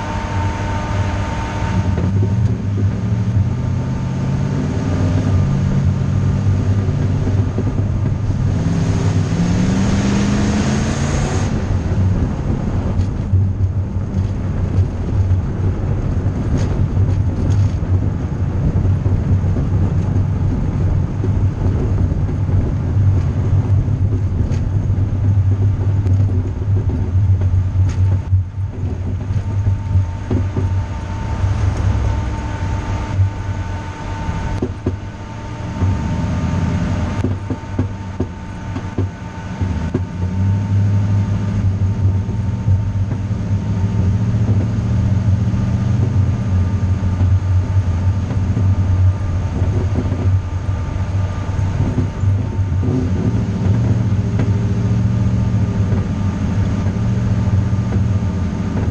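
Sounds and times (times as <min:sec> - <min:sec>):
road noise: 0:00.0 - 0:58.9
vehicle engine: 0:00.0 - 0:58.9.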